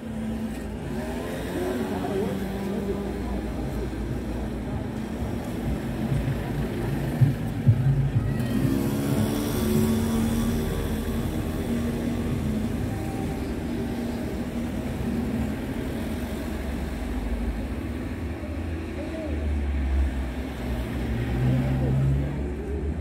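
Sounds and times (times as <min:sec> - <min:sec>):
low rumble of road noise: 0:00.0 - 0:23.0.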